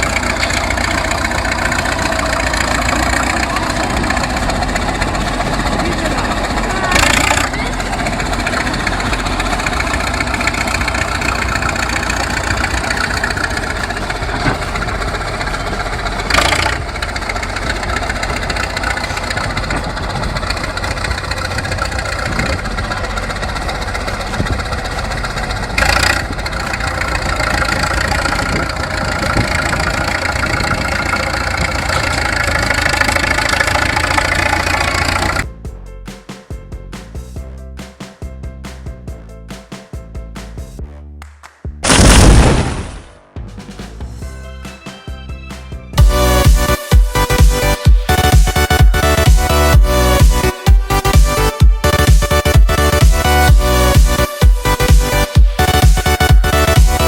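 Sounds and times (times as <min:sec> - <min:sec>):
heavy machine engine running: 0:00.0 - 0:35.5, 0:45.9 - 0:57.0.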